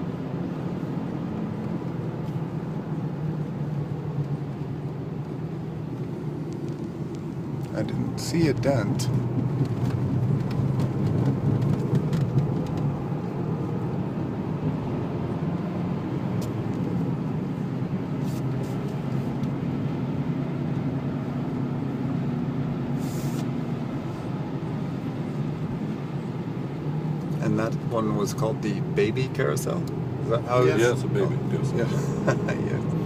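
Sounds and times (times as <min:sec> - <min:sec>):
tyre and road noise: 0:00.0 - 0:33.0.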